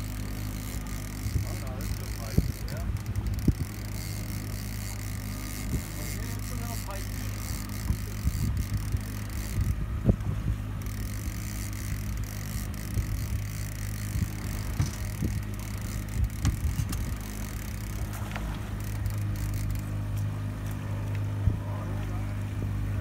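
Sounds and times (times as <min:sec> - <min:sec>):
outboard motor humming: 0:00.0 - 0:23.0
short low thumps: 0:01.0 - 0:19.8.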